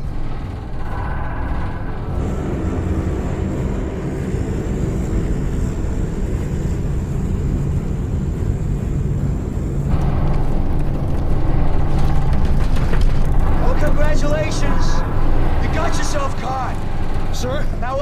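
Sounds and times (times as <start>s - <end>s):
propeller plane engine drone: 0.0s - 18.0s.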